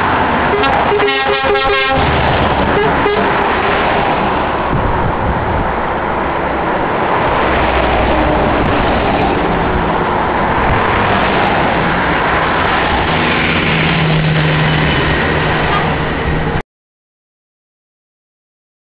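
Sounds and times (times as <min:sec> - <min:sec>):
trucks driving past: 0:00.0 - 0:16.6.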